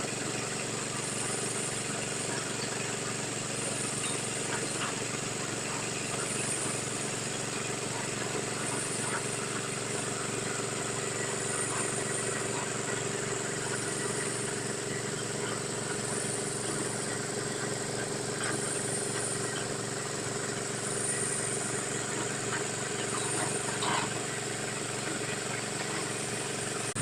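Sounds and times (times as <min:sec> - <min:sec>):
small engine running steadily: 0:00.0 - 0:27.0.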